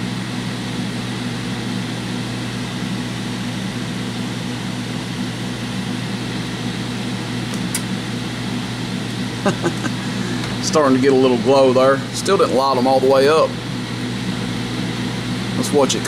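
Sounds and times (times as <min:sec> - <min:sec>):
cooling fans rushing air: 0:00.0 - 0:16.0.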